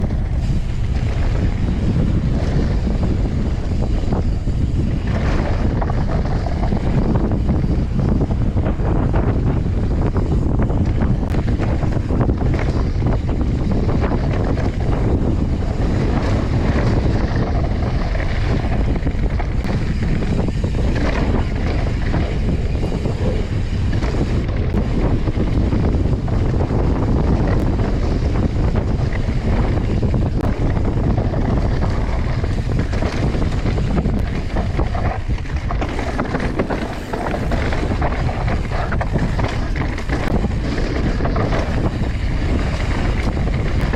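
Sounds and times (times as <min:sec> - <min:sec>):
bike clattering over bumps: 0:00.0 - 0:43.9
bike tyres rumbling on dirt: 0:00.0 - 0:43.9
wind buffeting camera: 0:00.0 - 0:43.9.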